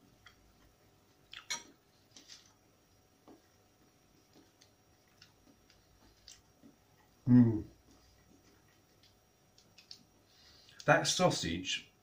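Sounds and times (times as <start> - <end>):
person chewing: 0.2 - 2.6, 3.2 - 10.8.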